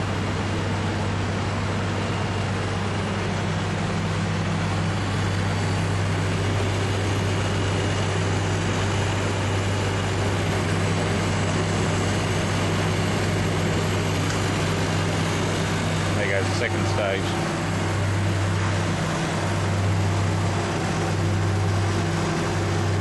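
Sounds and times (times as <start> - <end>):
compressor low hum: 0.0 - 23.0
condenser fan rushing: 0.0 - 23.0.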